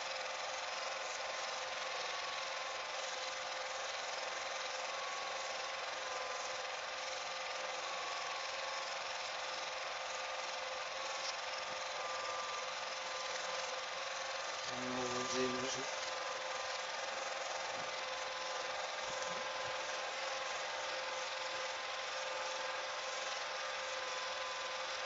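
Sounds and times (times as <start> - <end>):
film projector whirring: 0.0 - 25.0.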